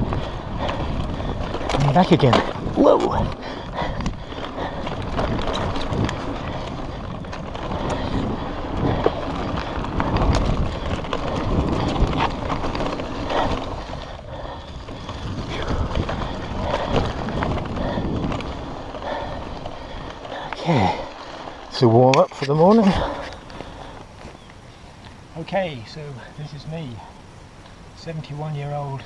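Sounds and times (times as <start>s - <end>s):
wind buffeting microphone: 0.0s - 24.6s
bike clattering over bumps: 0.0s - 24.7s
bike tyres rolling on dirt: 0.0s - 29.0s.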